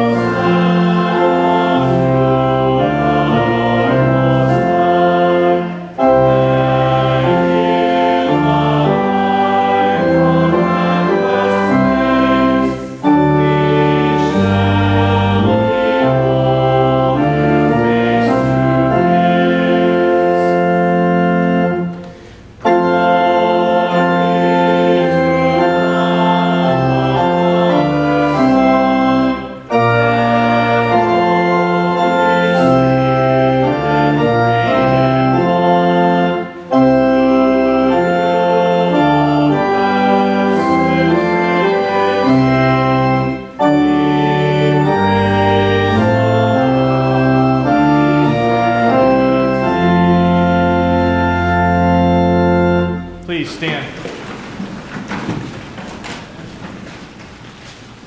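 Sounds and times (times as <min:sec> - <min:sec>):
church organ playing hymn: 0:00.0 - 0:58.0.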